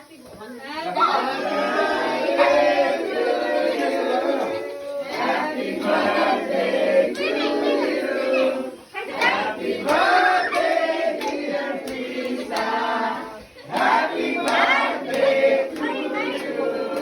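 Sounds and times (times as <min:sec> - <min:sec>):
voices singing in chorus: 0:00.6 - 0:17.0.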